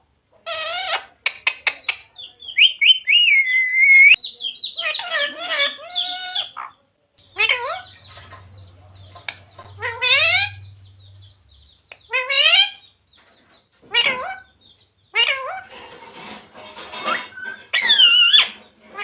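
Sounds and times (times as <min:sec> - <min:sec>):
parrot calling: 0:00.4 - 0:12.9, 0:13.8 - 0:15.7, 0:16.9 - 0:19.0.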